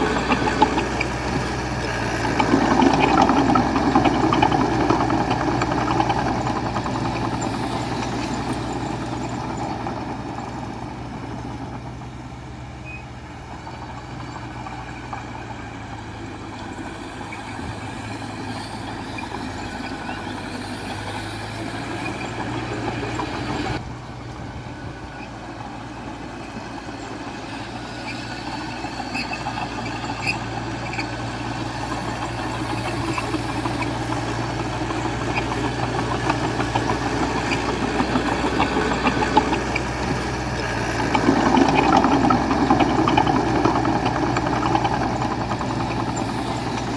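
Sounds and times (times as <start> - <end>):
bulldozer diesel engine: 0.0 - 46.9
dump truck engine running: 0.0 - 46.9.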